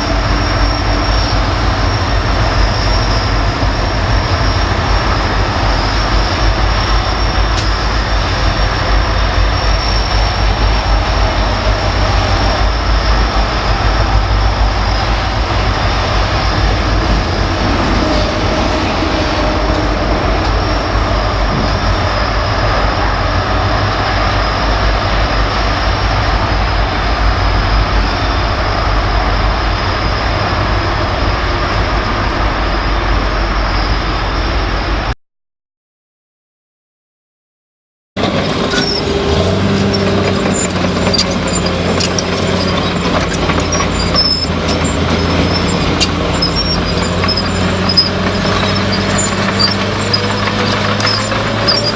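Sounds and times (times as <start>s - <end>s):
train wheels rolling on rails: 0.0s - 35.1s, 38.2s - 51.9s.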